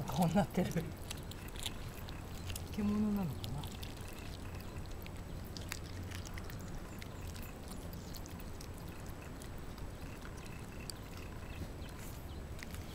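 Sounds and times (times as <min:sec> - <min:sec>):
dogs licking food bowls: 0:00.0 - 0:12.9
low steady hum: 0:00.0 - 0:12.9.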